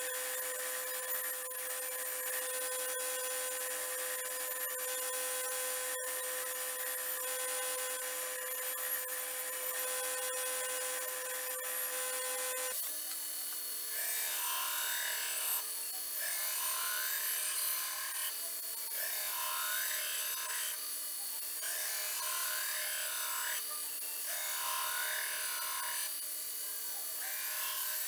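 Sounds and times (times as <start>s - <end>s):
belt grinder running: 0.0s - 28.0s.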